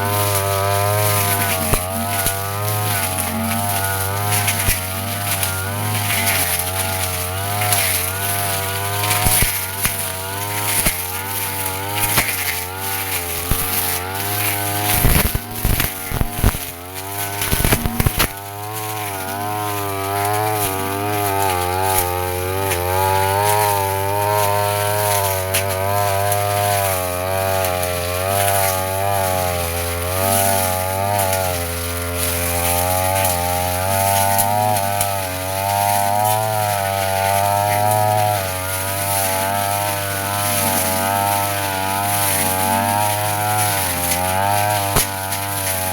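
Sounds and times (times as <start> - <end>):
blade striking stems: 0.0 - 45.9
brush cutter engine running: 0.0 - 45.9.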